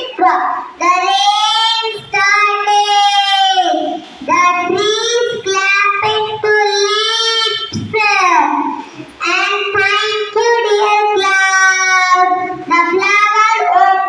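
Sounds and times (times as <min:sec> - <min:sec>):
child singing: 0:00.0 - 0:14.0.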